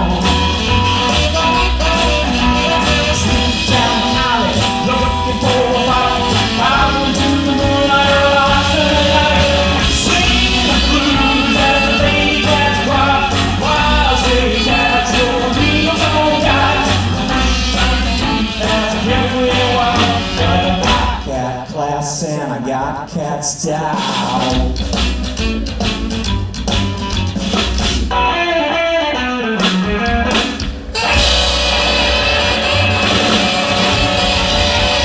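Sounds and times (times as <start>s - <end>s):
live band playing rockabilly: 0.0s - 21.8s, 22.6s - 35.0s.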